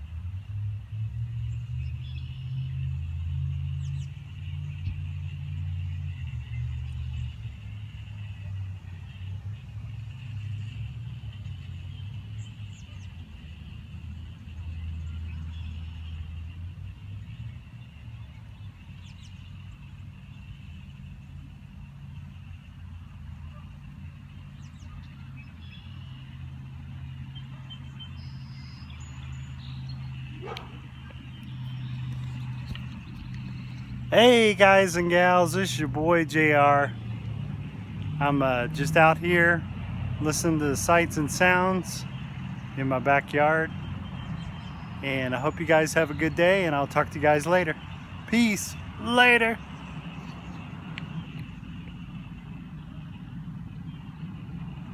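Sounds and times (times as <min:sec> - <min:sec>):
distant traffic rumble: 0:00.0 - 0:54.9.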